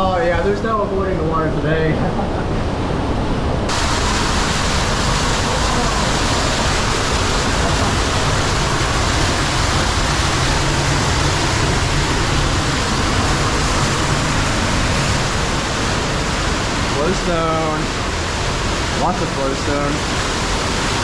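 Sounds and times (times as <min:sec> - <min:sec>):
water rushing through cave stream: 0:03.6 - 0:21.0.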